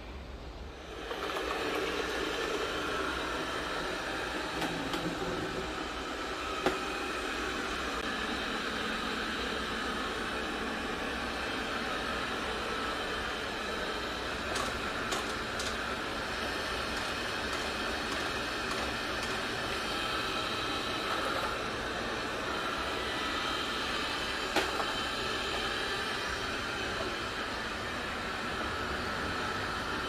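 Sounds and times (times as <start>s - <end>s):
robot vacuum whirring hum: 0.7s - 30.0s.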